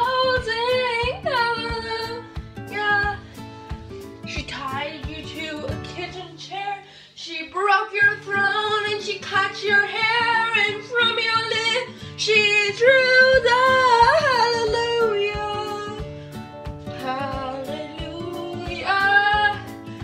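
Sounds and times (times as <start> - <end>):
pop song in background: 0.0 - 20.0.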